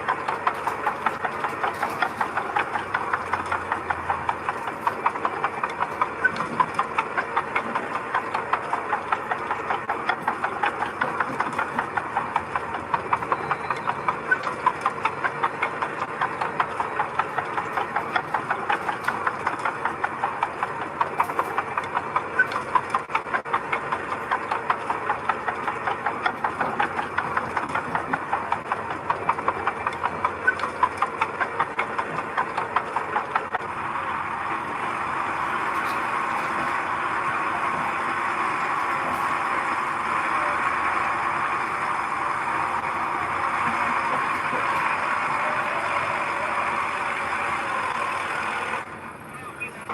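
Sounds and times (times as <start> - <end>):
construction machine engine clattering: 0.0 - 49.9.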